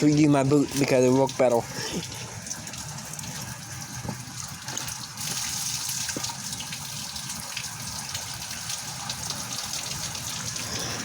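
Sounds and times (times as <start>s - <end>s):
rainwater rushing into drain: 0.0s - 11.0s.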